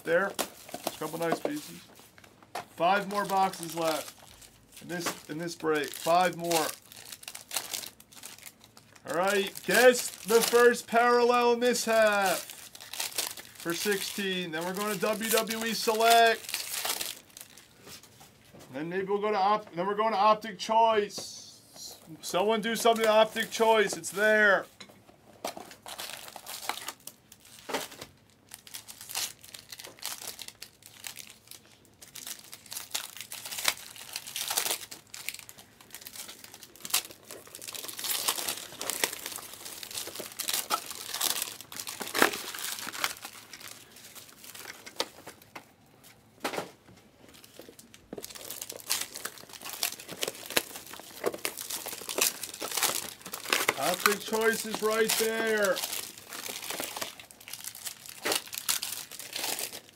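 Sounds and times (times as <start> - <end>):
plastic wrappers crinkling and tearing: 0.0 - 18.3, 22.6 - 24.3, 25.4 - 46.4, 47.1 - 59.9.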